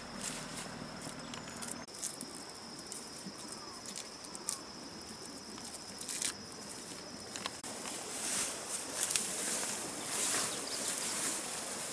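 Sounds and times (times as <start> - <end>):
leaves and twigs rustling: 0.0 - 11.9.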